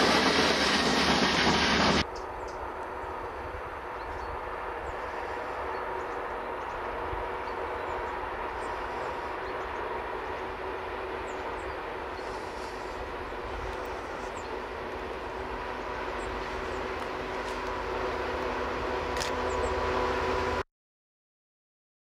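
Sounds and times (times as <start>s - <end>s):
distant train rumble: 0.0s - 20.6s
freight train wagons passing: 0.0s - 20.6s.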